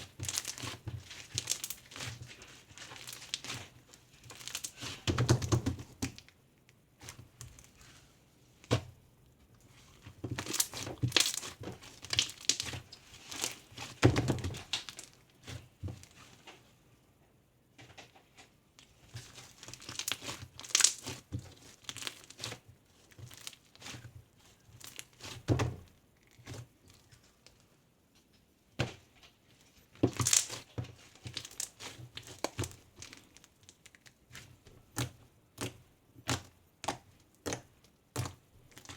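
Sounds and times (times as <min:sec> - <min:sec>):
crinkling and rustling handling: 0:00.0 - 0:38.9.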